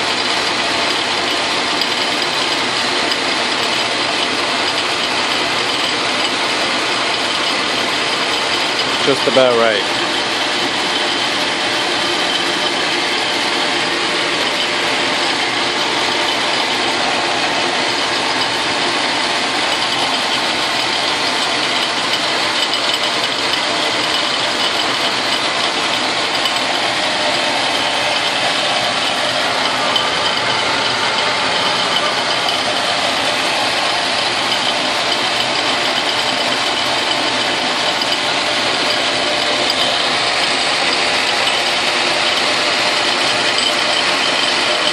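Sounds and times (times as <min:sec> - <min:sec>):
end mill cutting metal: 0:00.0 - 0:44.9
metal lathe running: 0:00.0 - 0:44.9.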